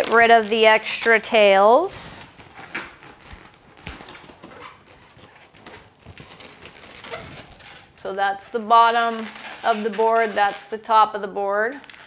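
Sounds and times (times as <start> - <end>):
balloons rubbing and squeaking: 0.0 - 11.0, 11.7 - 12.0.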